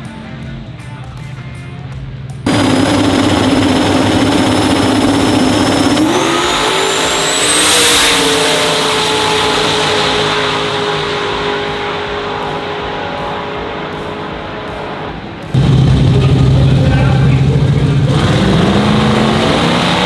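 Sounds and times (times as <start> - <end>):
high whine: 2.4 - 20.0
race car engine revving: 2.4 - 20.0.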